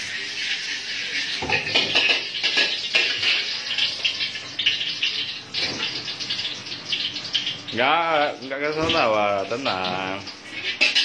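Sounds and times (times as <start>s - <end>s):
oil sizzling in a wok: 0.0s - 11.0s.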